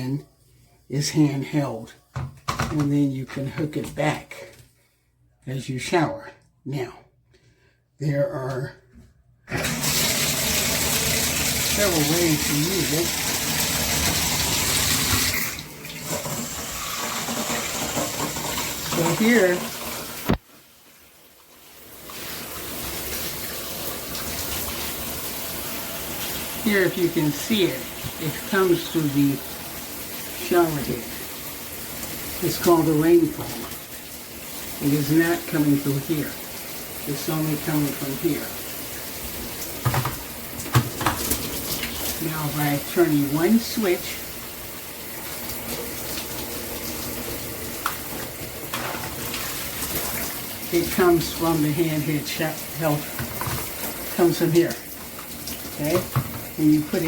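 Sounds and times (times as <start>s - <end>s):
shower water spraying: 9.6s - 20.4s, 21.6s - 57.0s.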